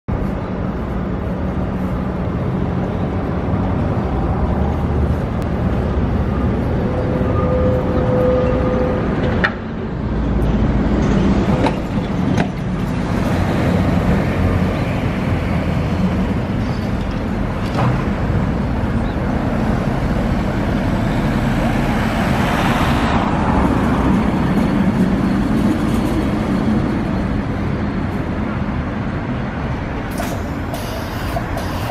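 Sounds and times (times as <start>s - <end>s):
electric tram approaching: 0.1s - 31.9s
street traffic: 0.1s - 31.9s.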